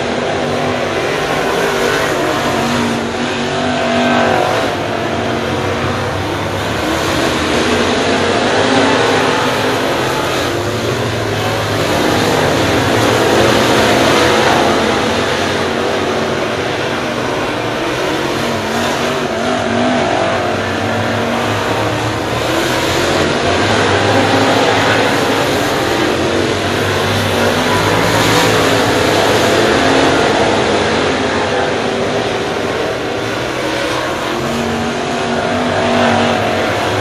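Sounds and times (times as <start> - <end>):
race car engines droning: 0.0 - 37.0.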